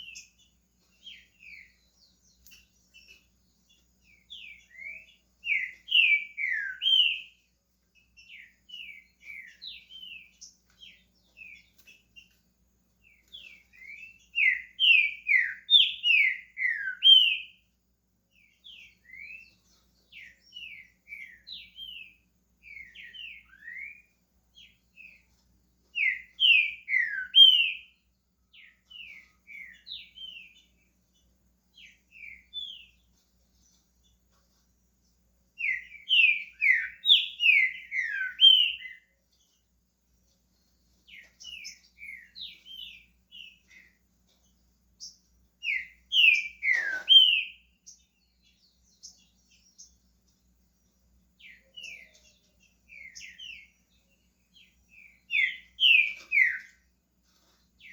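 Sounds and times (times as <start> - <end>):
soft scattered bird notes: 0.0 - 57.9.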